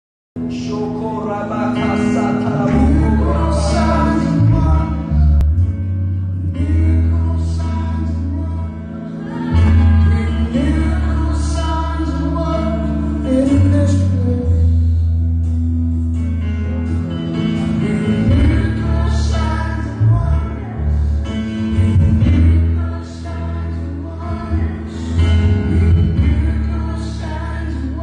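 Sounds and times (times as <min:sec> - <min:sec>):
live band with singers: 0:00.4 - 0:28.0
deep sustained bass notes: 0:01.8 - 0:28.0.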